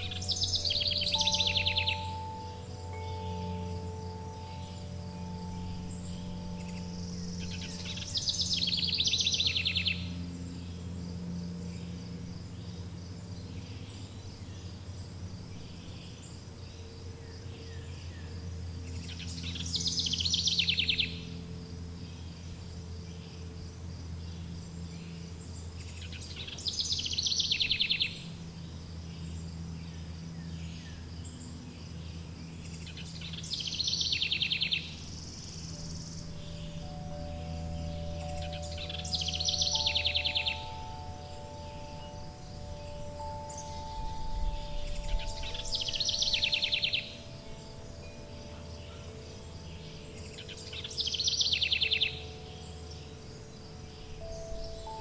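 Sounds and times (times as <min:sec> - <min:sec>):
insects chirring: 0:00.0 - 0:55.0
low held hum: 0:00.0 - 0:55.0.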